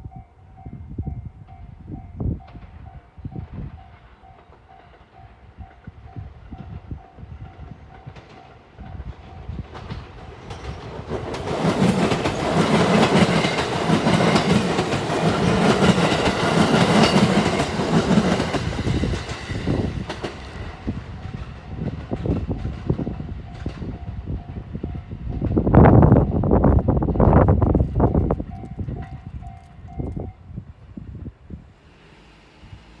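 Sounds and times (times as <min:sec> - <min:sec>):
train rushing and wheel clatter: 0:00.6 - 0:33.0.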